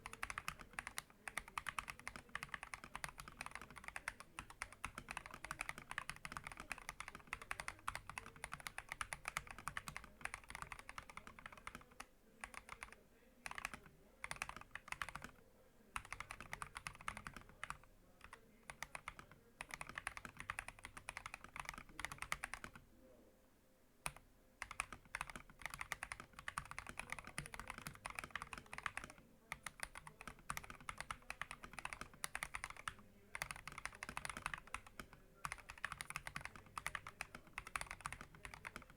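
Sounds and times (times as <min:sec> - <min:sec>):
typing on mechanical keyboard: 0:00.0 - 0:15.4, 0:16.0 - 0:22.8, 0:24.0 - 0:38.9.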